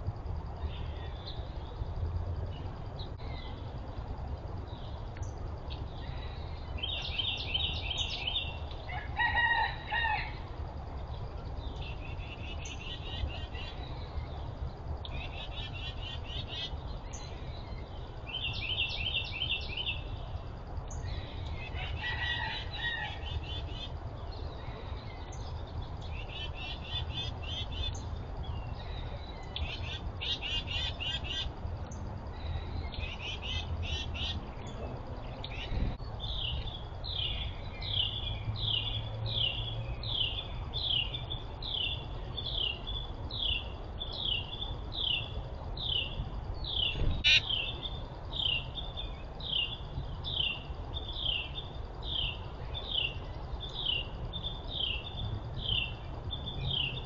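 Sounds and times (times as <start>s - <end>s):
songbirds chattering: 11.1s - 57.0s.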